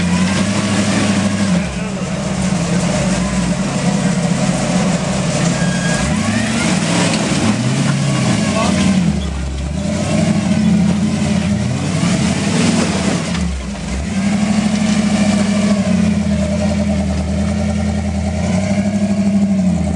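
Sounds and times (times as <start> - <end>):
off-road engine revving under load: 0.0 - 19.9.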